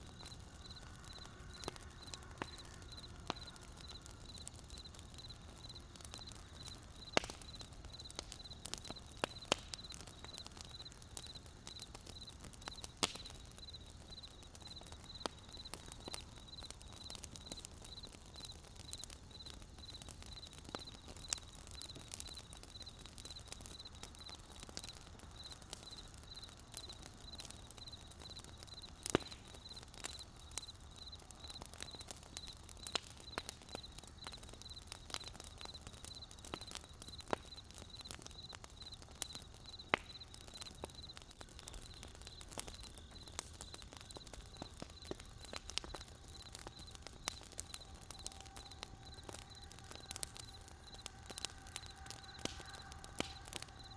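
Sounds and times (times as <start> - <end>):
campfire wood crackling: 0.0 - 53.9.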